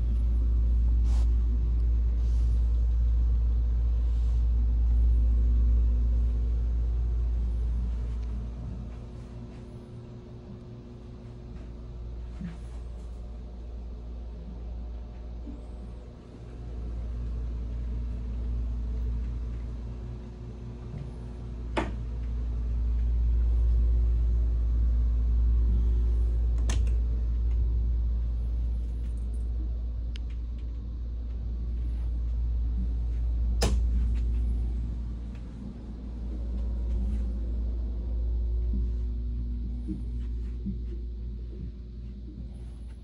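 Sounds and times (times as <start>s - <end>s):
machinery rumble and hum: 0.0s - 43.0s.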